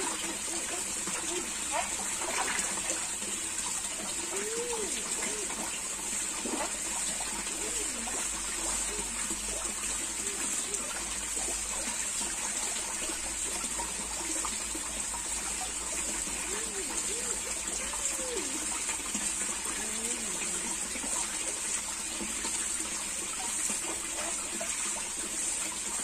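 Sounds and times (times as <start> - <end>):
running water trickling: 0.0 - 26.0.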